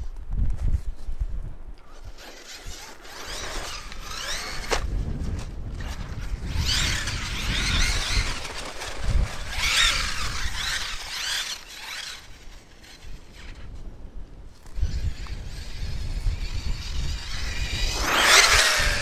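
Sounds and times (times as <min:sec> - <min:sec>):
rc truck motor whining: 0:01.8 - 0:19.0.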